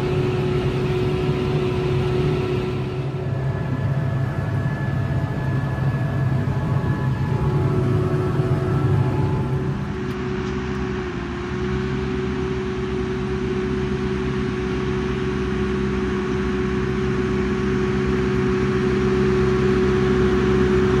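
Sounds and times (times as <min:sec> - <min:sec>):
tractor engine droning: 0:00.0 - 0:21.0.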